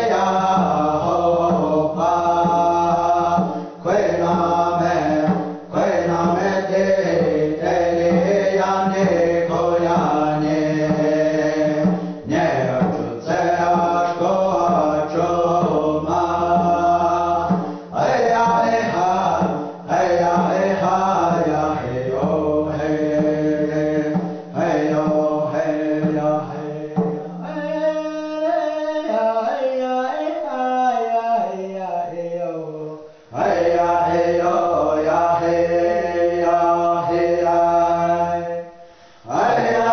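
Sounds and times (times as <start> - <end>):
men chanting together: 0.0 - 39.9.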